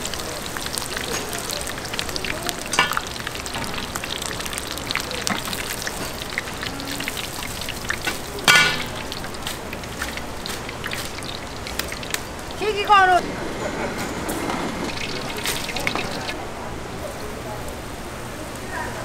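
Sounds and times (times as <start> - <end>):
food sizzling in hot oil: 0.0 - 13.2, 14.2 - 16.4.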